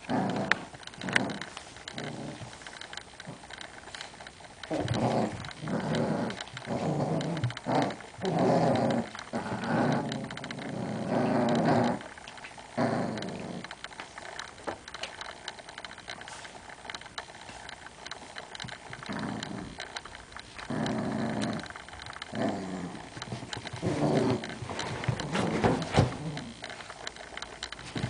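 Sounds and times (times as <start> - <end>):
small dogs growling: 0.0 - 28.0.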